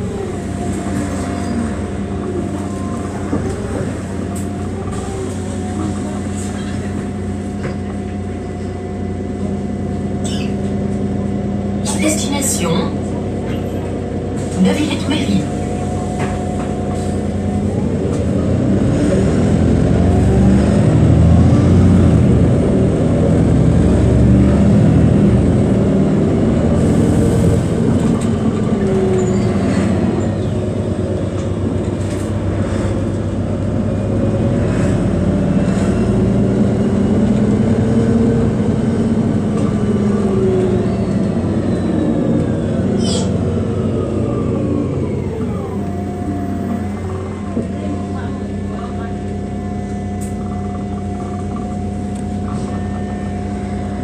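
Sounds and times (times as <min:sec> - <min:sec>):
bus engine accelerating: 0:00.0 - 0:54.0
road noise: 0:00.0 - 0:54.0.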